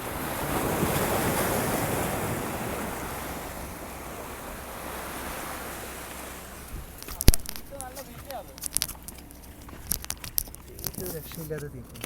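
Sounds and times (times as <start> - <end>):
wind on microphone: 0.0 - 11.1
sea waves washing: 0.0 - 12.0.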